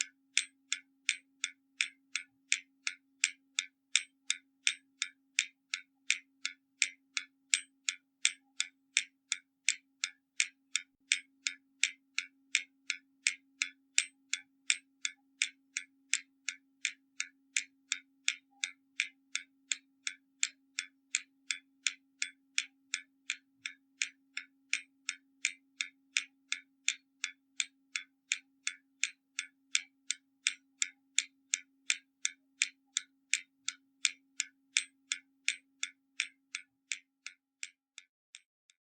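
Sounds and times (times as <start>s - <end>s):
mechanical clock ticking: 0.0s - 37.7s.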